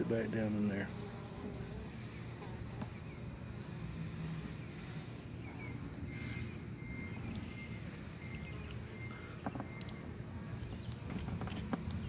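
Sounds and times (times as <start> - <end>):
honey bees humming: 0.0 - 12.0.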